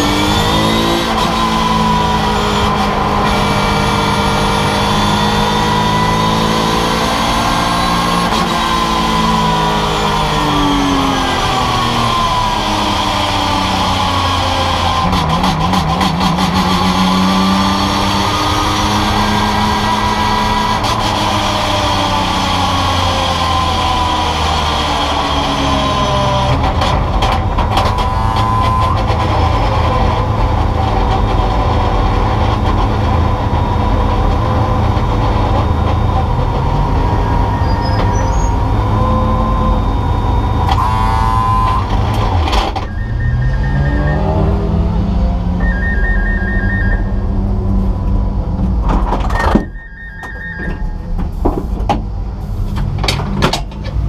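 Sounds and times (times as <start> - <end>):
race car engine revving: 0.0 - 49.5.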